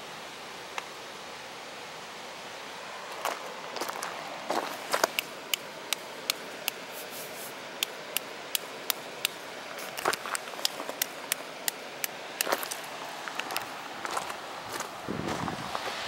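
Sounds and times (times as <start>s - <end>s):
waterfall and river rushing: 0.0s - 16.0s.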